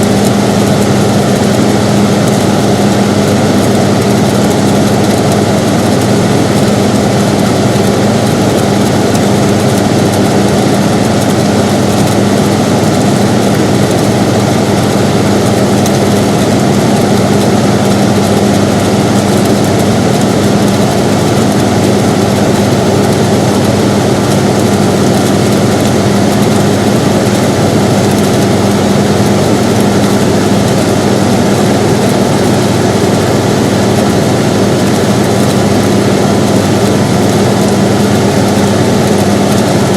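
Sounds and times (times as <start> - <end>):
air conditioner fan rushing: 0.0 - 39.9.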